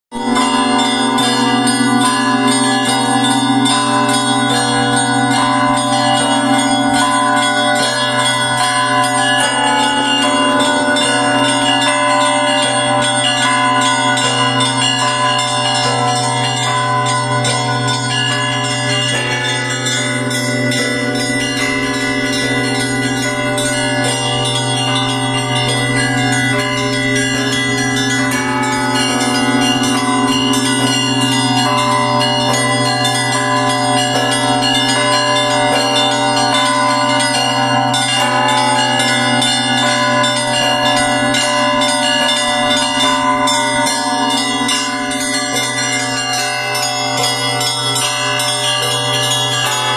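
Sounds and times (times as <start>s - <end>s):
large bell humming: 0.1s - 49.9s
small bells chiming quickly: 0.1s - 49.9s.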